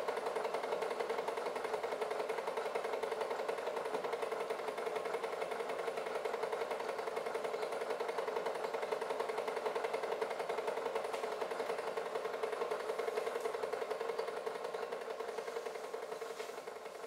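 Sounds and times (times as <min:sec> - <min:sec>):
film projector clattering: 0:00.0 - 0:17.0.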